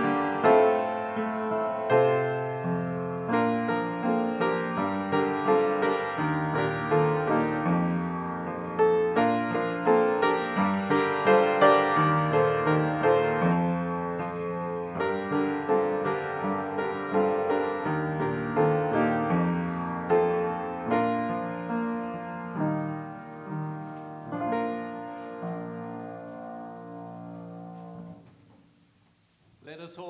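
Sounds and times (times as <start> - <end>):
slow piano chords: 0.0 - 29.4.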